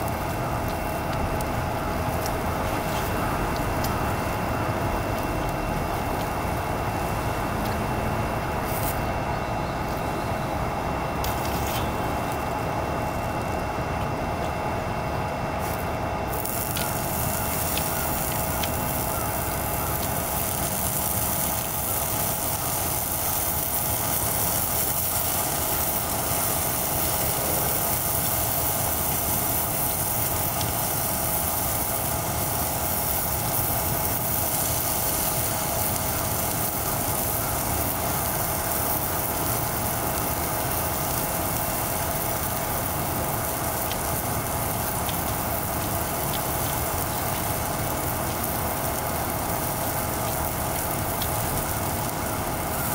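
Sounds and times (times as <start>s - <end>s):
food sizzling: 0.0s - 52.9s
gas stove roaring: 0.0s - 52.9s.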